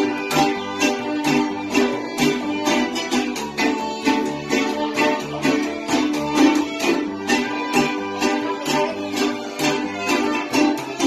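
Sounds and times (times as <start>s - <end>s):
acoustic guitars strummed: 0.0s - 11.0s
violins playing melody: 0.0s - 11.0s.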